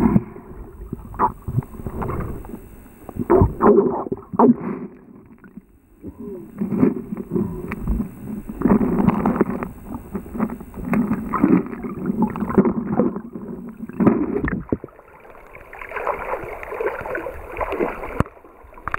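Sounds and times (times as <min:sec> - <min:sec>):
muffled underwater river sloshing: 0:00.0 - 0:18.9.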